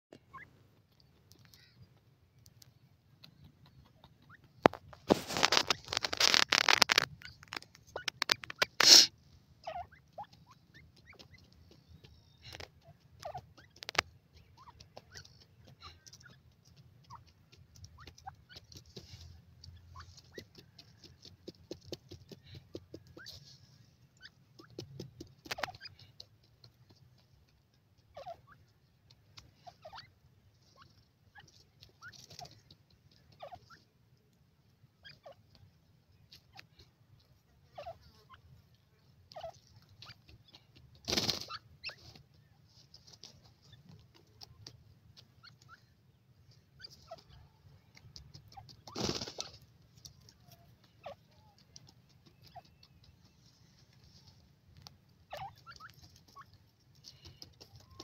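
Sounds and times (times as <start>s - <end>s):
faint peeping calls: 0.1s - 58.0s
patters of flicked dirt: 0.1s - 58.0s
birds scratching in dry soil: 0.2s - 58.0s.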